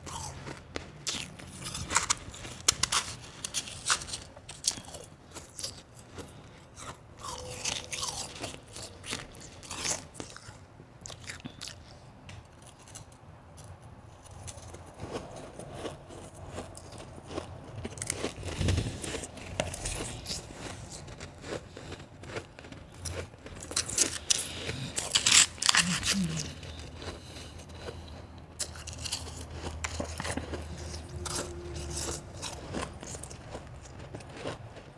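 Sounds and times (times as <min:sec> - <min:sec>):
person chewing crunchy ice: 0:00.0 - 0:34.9.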